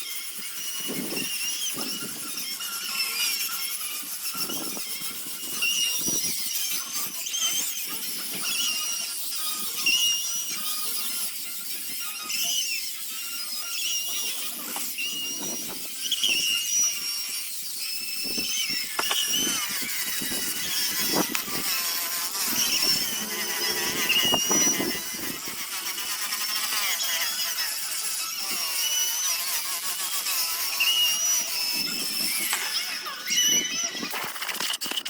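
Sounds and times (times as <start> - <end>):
sandpaper scraping wood: 0.0 - 35.0.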